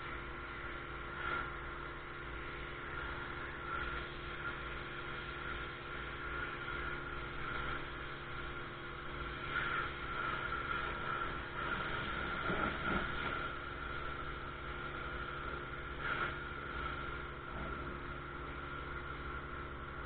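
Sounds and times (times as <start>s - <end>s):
pressure washer motor hum: 0.0s - 20.0s
water jet hissing: 0.0s - 20.0s.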